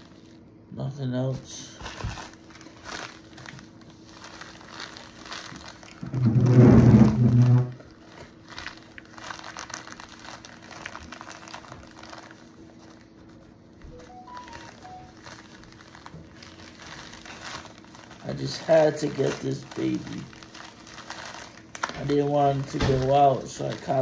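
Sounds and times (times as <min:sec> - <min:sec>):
envelope crinkling and tearing: 0:01.6 - 0:24.0.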